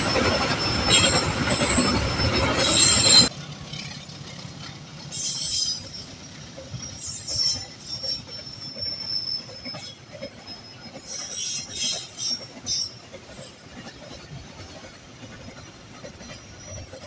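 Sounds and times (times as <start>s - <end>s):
train rumbling clatter: 0.0s - 17.0s
train wheels squealing: 0.0s - 17.0s.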